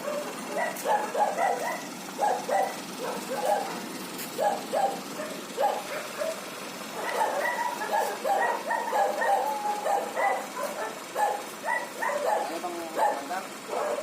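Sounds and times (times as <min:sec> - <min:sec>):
dog barking: 0:00.0 - 0:14.0.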